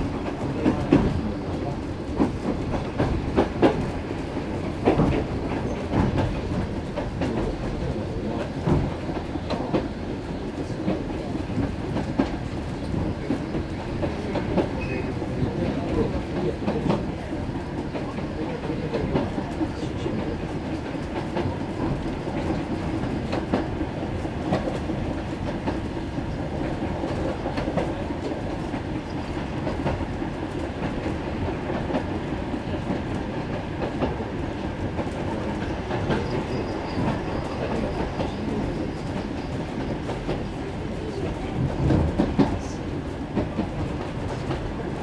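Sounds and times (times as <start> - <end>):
train carriage rumble: 0.0 - 45.0.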